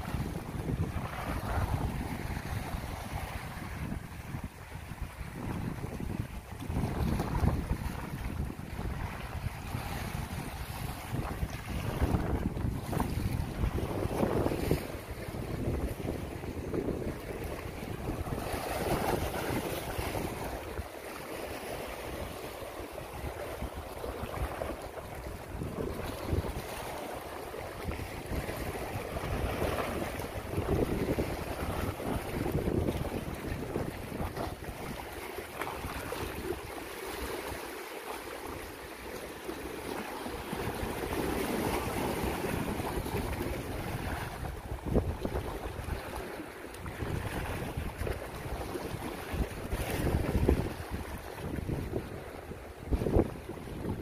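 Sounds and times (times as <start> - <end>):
wind on microphone: 0.0 - 37.7, 39.5 - 54.0
waves splashing on rocks: 7.0 - 52.0.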